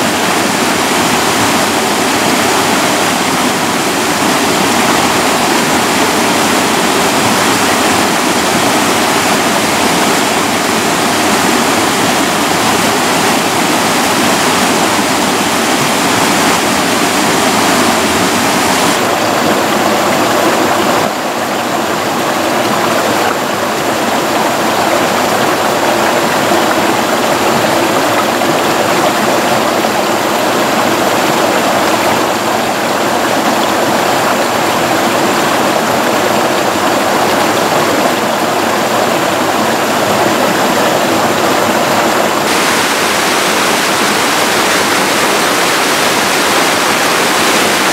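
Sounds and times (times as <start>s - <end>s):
stream running over rocks: 0.0s - 47.9s
waterfall rushing: 0.0s - 47.9s.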